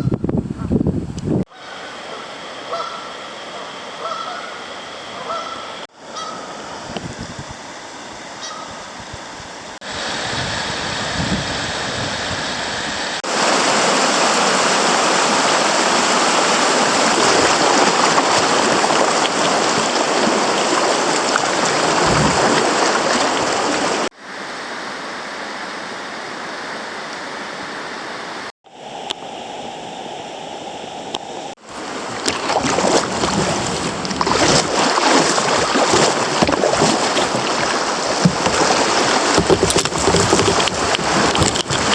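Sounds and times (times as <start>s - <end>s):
creek water flowing: 1.5s - 8.6s, 9.6s - 41.9s.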